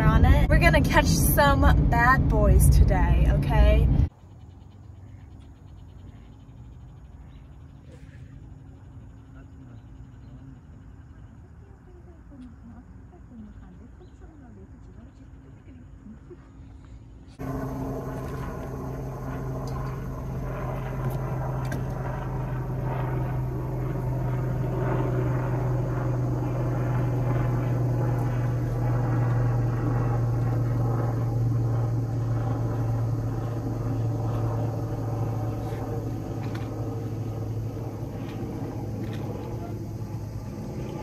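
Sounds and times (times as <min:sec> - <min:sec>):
low engine drone: 0:00.0 - 0:11.4, 0:16.7 - 0:41.0.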